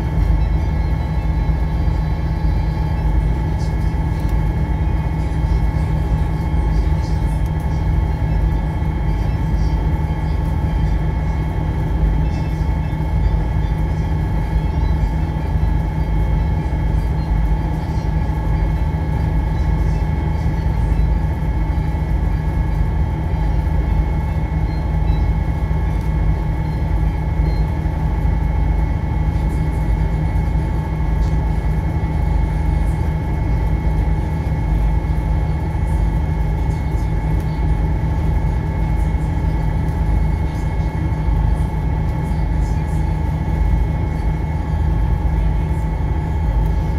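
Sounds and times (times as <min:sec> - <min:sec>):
ferry engine droning: 0:00.0 - 0:46.9.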